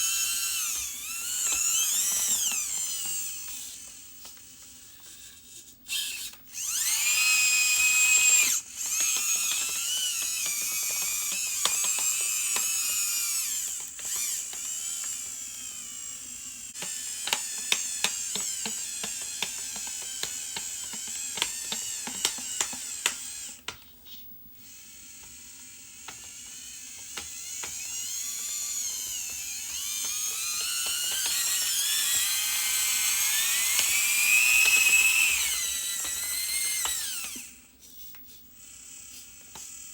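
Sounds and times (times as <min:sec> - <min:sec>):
small electric motors whining: 0:00.0 - 0:39.9.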